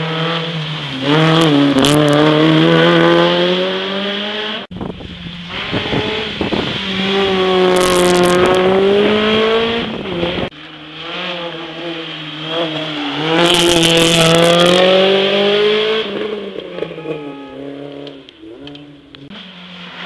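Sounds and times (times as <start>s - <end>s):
car engine accelerating: 0.0s - 20.0s
rally car engine revving: 0.0s - 20.0s.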